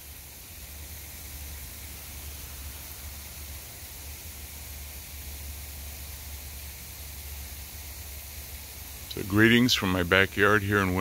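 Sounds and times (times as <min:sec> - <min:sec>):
faint even hiss: 0:00.0 - 0:11.0
low hum: 0:00.0 - 0:11.0.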